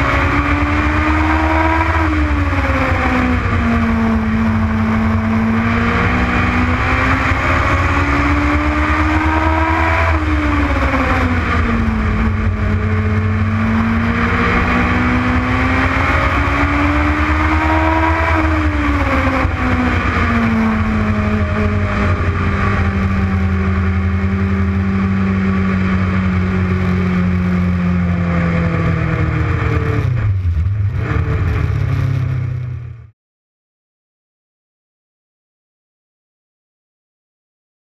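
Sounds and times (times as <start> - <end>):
race car engine revving: 0.0 - 33.1.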